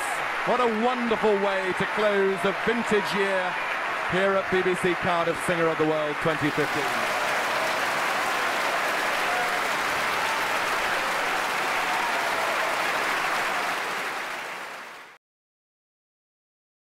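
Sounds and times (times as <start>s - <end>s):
large audience applauding: 0.0s - 15.2s.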